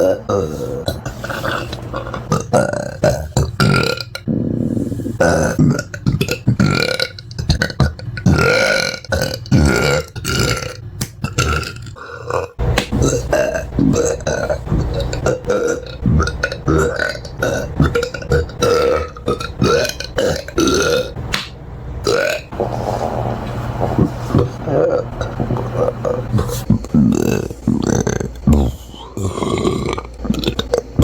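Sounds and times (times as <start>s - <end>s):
person belching: 0.0s - 4.5s, 5.2s - 21.2s, 22.0s - 22.6s, 24.4s - 31.0s.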